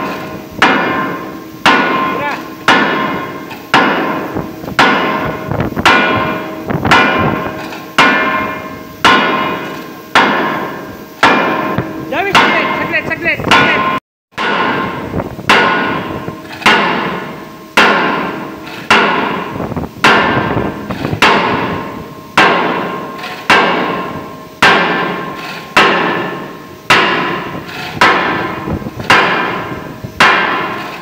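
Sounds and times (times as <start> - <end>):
hammer striking steel: 0.0 - 31.0.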